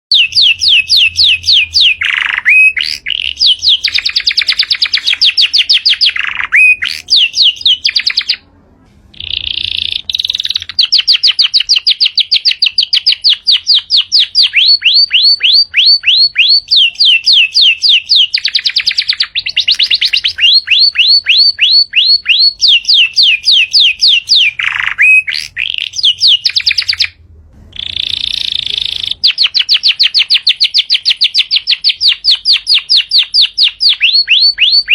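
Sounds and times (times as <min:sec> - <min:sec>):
canary singing trills: 0:00.1 - 0:08.5, 0:09.1 - 0:34.9.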